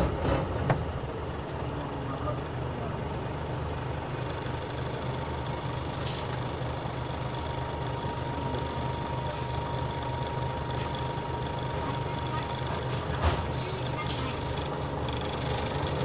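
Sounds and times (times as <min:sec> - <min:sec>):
bus diesel engine humming: 0:00.0 - 0:16.0.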